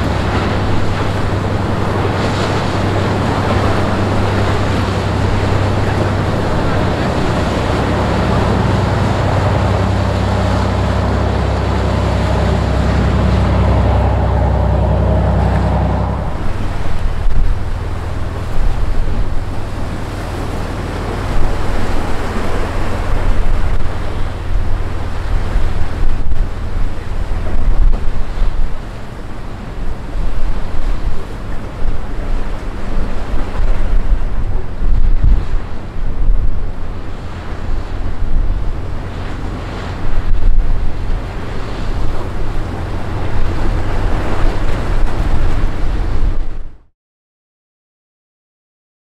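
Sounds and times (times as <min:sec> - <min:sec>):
wake rushing: 0:00.0 - 0:46.6
boat engines droning: 0:00.0 - 0:46.9
waves: 0:00.0 - 0:46.9
wind buffeting microphone: 0:00.0 - 0:46.9.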